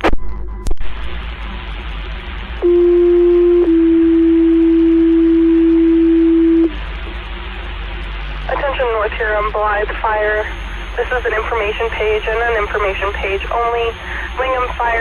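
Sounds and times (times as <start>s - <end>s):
radio channel hiss: 0.8s - 15.0s.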